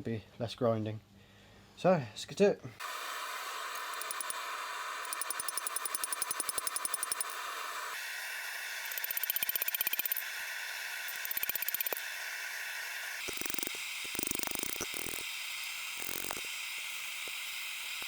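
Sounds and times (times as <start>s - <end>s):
steady hiss: 2.8s - 18.0s.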